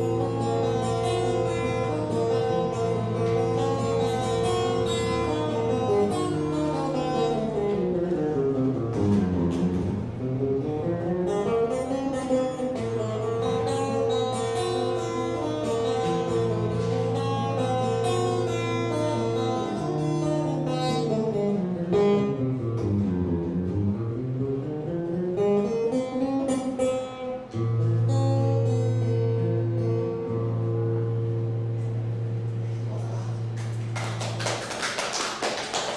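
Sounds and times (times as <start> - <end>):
acoustic rock guitar: 0.0 - 34.0.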